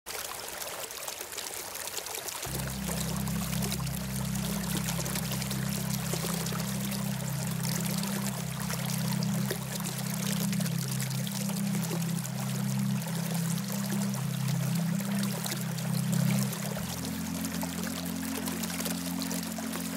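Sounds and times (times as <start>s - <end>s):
water flowing and splashing: 0.1s - 19.9s
low drone of held tones: 2.5s - 19.9s.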